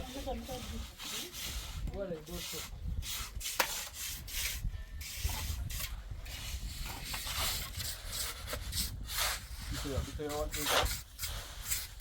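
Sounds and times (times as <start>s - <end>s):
irregular scraping strokes: 0.0s - 12.0s.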